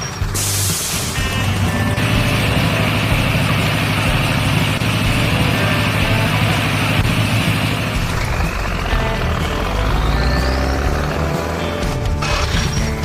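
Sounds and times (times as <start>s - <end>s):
heavy truck engine running: 0.0s - 13.0s
rising whine: 1.0s - 13.0s.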